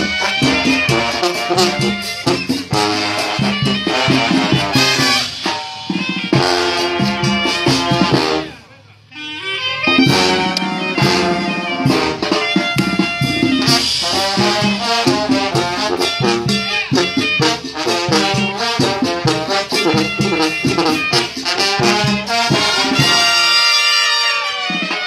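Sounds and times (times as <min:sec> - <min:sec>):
steady drum beat: 0:00.0 - 0:08.5, 0:09.9 - 0:23.9
brass band playing: 0:00.0 - 0:25.0.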